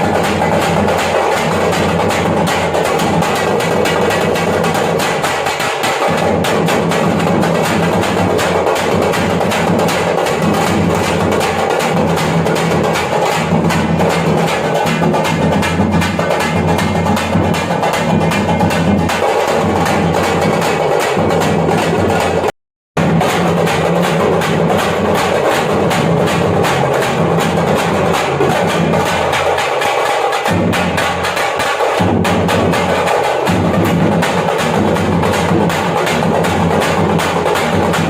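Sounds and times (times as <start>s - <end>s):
frame drums playing fast rhythm: 0.0s - 38.0s.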